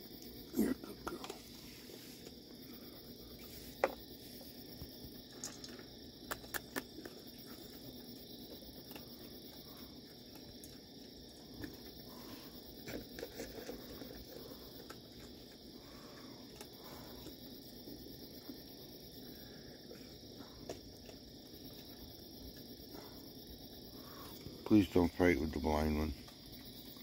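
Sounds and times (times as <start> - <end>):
night insects chirring: 0.0 - 27.0.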